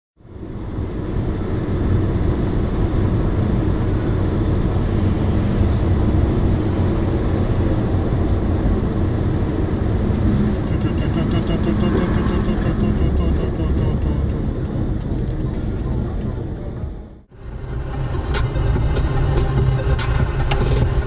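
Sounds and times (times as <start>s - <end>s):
car driving rumble: 0.2s - 21.0s.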